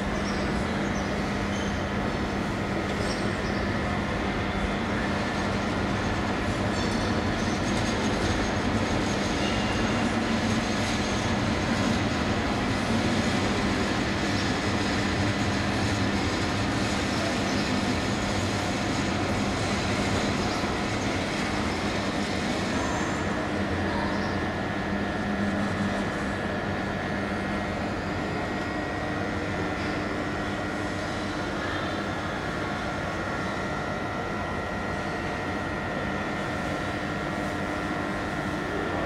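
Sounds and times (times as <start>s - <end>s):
electric train rumbling on rails: 0.1s - 36.9s.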